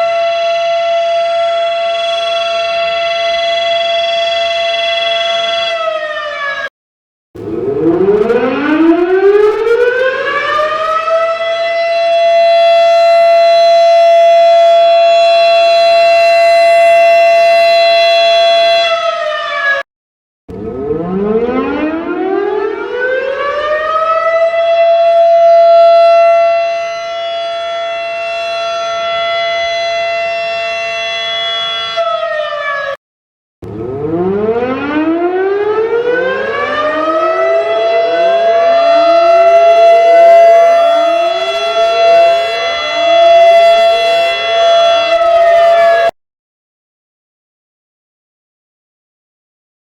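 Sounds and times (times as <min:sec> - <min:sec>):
tornado siren winding up: 0:00.0 - 0:06.7, 0:07.4 - 0:19.8, 0:20.5 - 0:33.0, 0:33.6 - 0:46.2.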